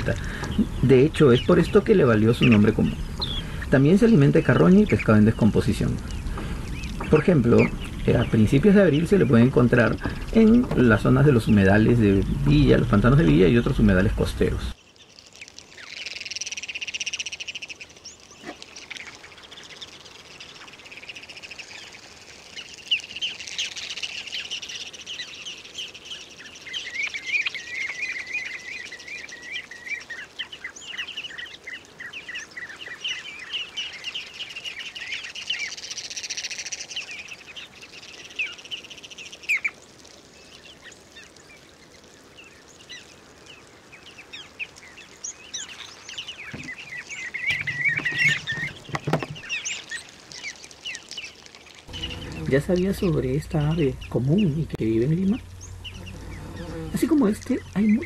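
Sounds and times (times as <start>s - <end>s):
shorebirds chattering: 0.0s - 58.0s.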